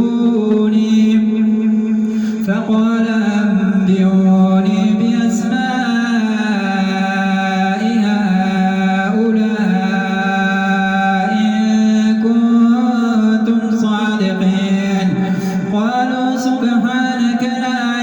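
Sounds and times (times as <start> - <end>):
man chanting melodic recitation: 0.0 - 18.0.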